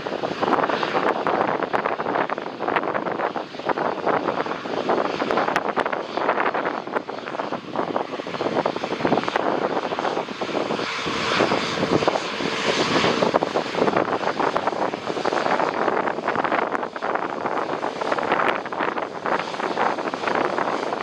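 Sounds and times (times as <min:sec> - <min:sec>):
jet airliner engines passing: 0:00.0 - 0:21.0
wind buffeting microphone: 0:00.0 - 0:21.0.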